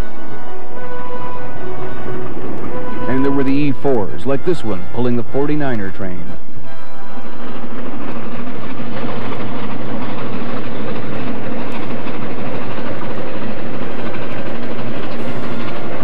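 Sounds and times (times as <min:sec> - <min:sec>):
passenger train rumbling past: 0:00.0 - 0:16.0.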